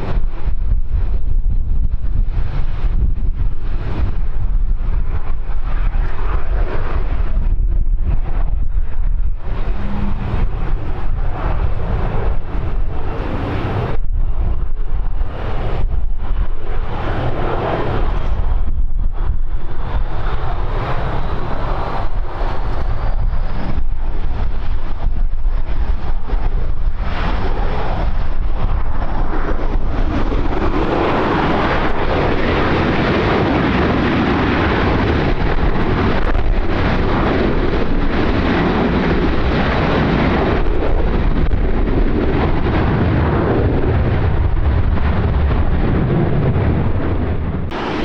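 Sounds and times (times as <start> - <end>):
jet engine noise: 0.0 - 48.0
wind buffeting microphone: 0.0 - 48.0.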